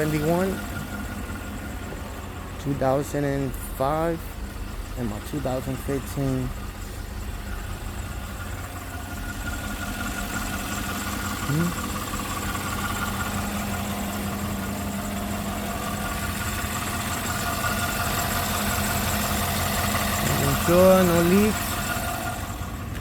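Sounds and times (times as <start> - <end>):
car engine idling with whine: 0.0 - 23.0.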